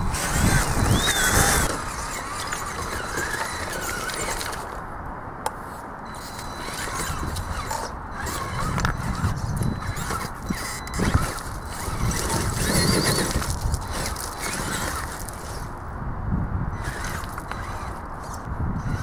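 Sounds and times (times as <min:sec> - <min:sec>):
electric motor and gears whining: 0:00.0 - 0:04.9, 0:06.0 - 0:15.8, 0:16.7 - 0:19.0.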